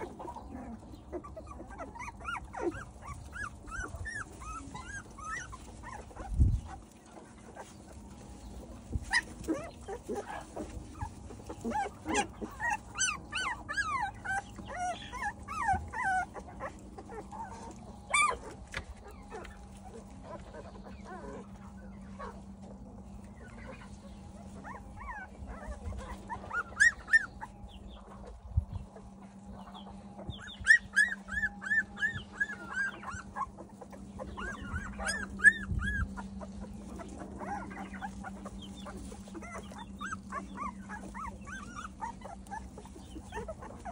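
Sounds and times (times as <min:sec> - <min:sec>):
faint steady hum: 0:00.0 - 0:43.9
puppies whimpering and squeaking: 0:00.0 - 0:43.9.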